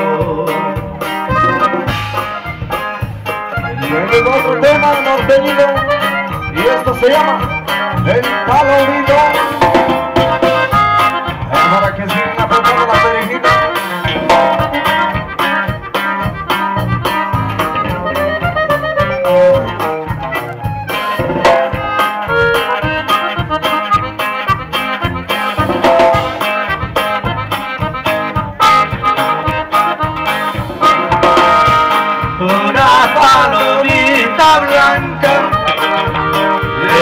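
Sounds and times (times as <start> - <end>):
accordion melody: 0.0 - 37.0
bass and drums dance beat: 0.1 - 37.0.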